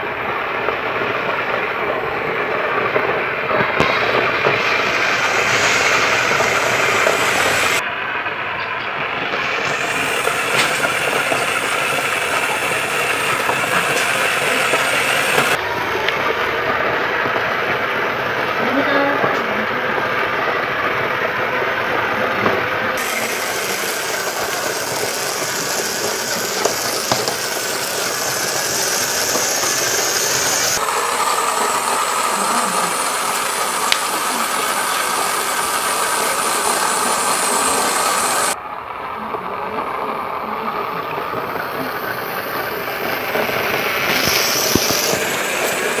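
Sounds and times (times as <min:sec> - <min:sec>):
motor running: 0:02.0 - 0:07.8, 0:09.0 - 0:38.6, 0:39.4 - 0:46.0.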